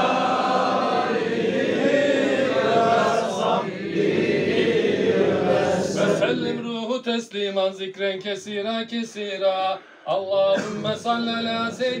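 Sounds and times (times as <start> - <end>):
men chanting in unison: 0.0 - 6.8, 9.2 - 12.0.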